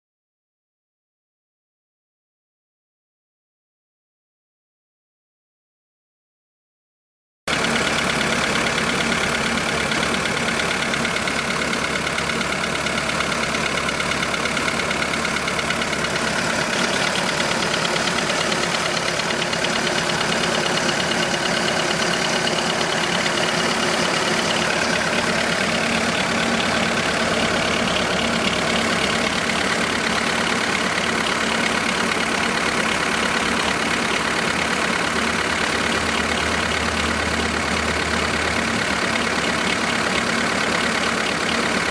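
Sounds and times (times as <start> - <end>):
car engine idling: 7.5 - 41.9
rapid clicking: 7.6 - 41.9.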